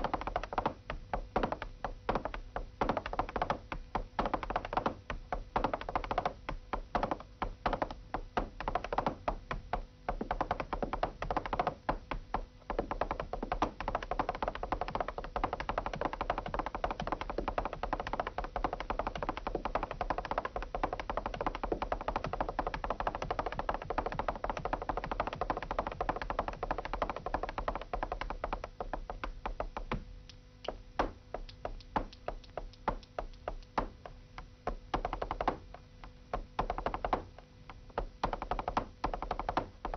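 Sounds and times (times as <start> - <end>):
heeled boots stamping on hard floor: 0.0 - 39.9.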